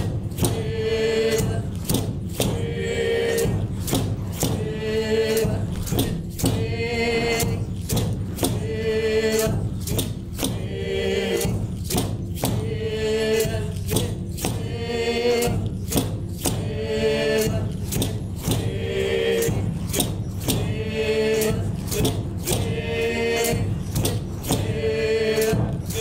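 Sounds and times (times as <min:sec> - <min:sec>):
steady beat: 0:00.0 - 0:26.0
voices chanting: 0:00.0 - 0:26.0.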